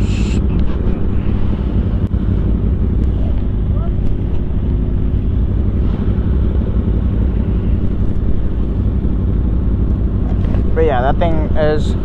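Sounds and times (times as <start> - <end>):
motorcycle engine and exhaust: 0.0 - 12.0.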